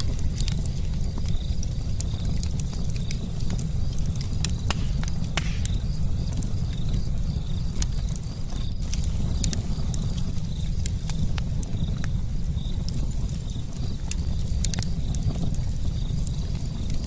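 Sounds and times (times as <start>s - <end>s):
fire burning: 0.0s - 17.0s
fire crackling and popping: 0.0s - 17.0s.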